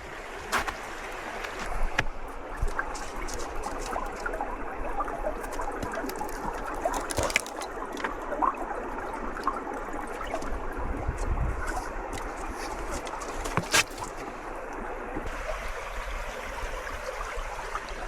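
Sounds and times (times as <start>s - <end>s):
water trickling and gurgling: 0.0s - 18.0s.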